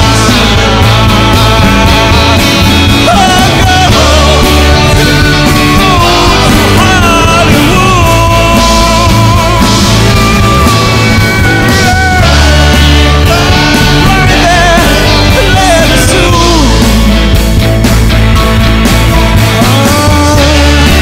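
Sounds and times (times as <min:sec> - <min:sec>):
lead and backing vocals: 0:00.0 - 0:17.6, 0:19.4 - 0:21.0
acoustic guitar: 0:00.0 - 0:21.0
electric bass: 0:00.0 - 0:21.0
live rock band: 0:00.0 - 0:21.0.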